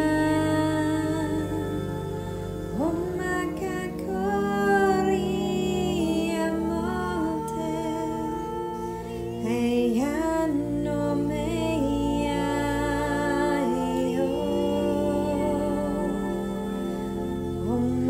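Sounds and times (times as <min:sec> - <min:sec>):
sustained drone: 0:00.0 - 0:18.0.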